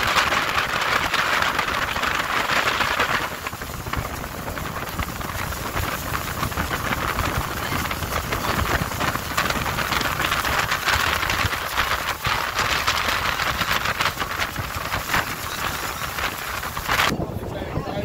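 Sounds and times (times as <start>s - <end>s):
water washing along boat hull: 0.0s - 18.0s
wind buffeting microphone: 0.0s - 18.0s.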